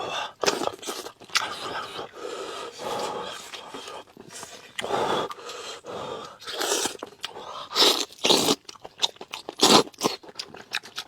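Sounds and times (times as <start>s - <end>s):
person chewing food: 0.3s - 11.0s.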